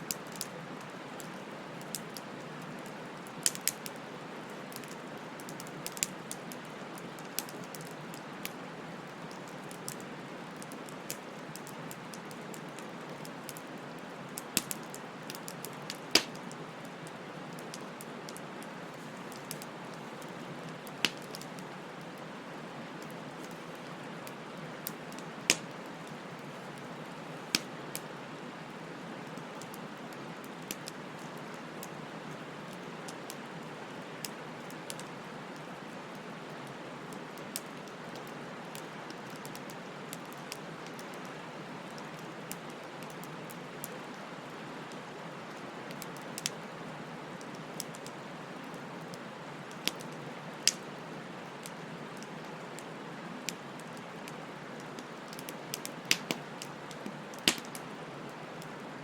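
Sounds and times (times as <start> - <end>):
bonfire hissing and crackling: 0.0 - 59.0.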